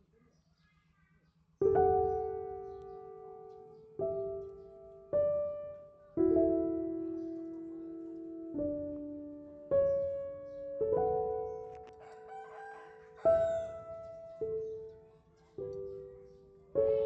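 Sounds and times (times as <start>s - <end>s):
slow piano notes and chords: 1.6s - 17.0s.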